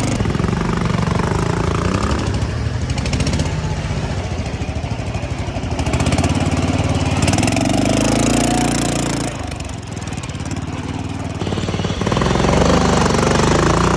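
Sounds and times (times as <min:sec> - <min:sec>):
ride-on mower engine running: 0:00.0 - 0:13.9.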